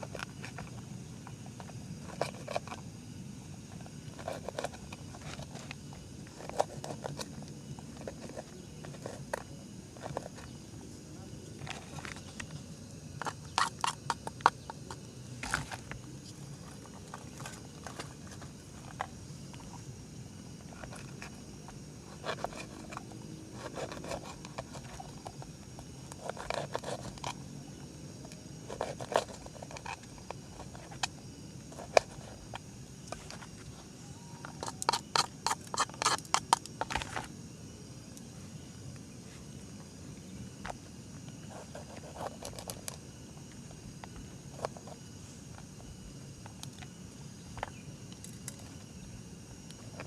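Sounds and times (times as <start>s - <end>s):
steady low background noise: 0.0s - 34.5s, 36.6s - 50.0s.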